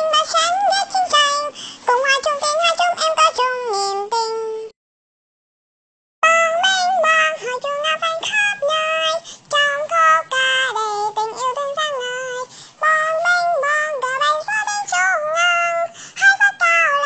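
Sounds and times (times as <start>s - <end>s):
high-pitched voice singing: 0.0s - 4.8s, 6.2s - 17.0s.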